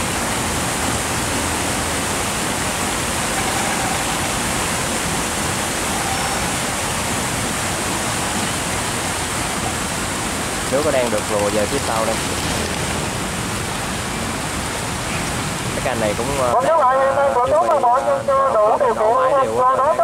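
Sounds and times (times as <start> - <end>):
water rushing over sluice gate: 0.0 - 20.0.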